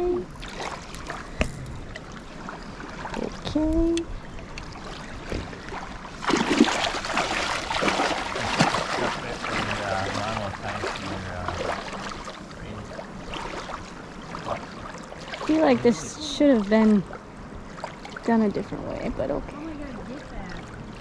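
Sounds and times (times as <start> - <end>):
low hum: 0.0 - 21.0
legs splashing through water: 2.2 - 19.0.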